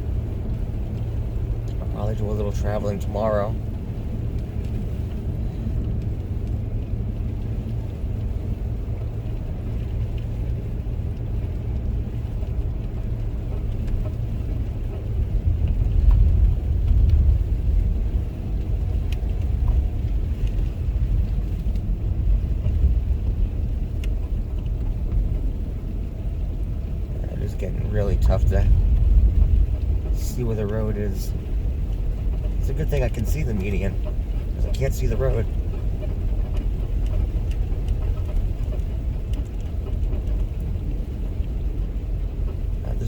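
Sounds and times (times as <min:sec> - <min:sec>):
car tyres rumbling on snow: 0:00.0 - 0:43.0.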